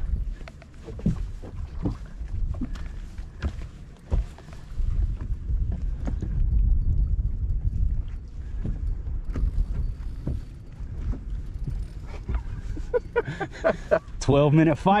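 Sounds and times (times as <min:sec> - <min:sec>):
low wind rumble on microphone: 0:00.0 - 0:15.0.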